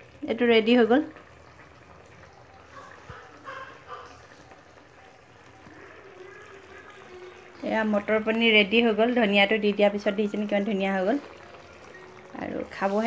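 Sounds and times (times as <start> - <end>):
curry bubbling: 0.0 - 13.0.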